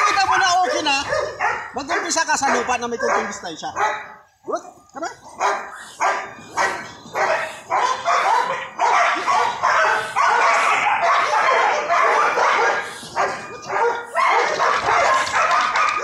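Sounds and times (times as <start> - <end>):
dog barking: 0.0 - 4.3, 5.2 - 16.0.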